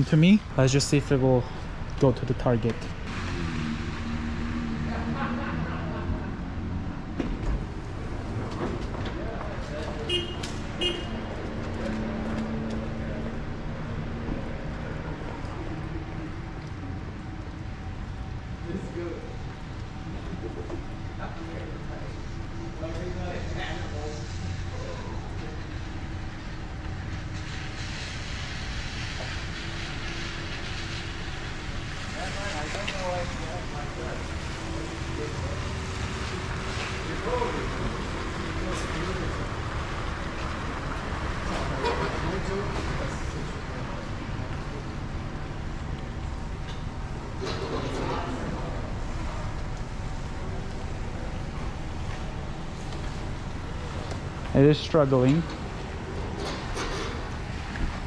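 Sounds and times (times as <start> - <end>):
vehicle engine humming: 0.0 - 58.0
rain on wet pavement: 1.0 - 47.6, 48.5 - 54.6.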